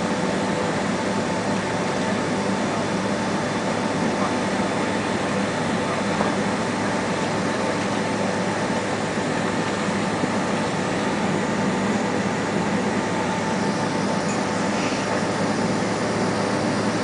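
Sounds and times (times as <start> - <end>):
aircraft cabin air and machinery hum: 0.0 - 17.0.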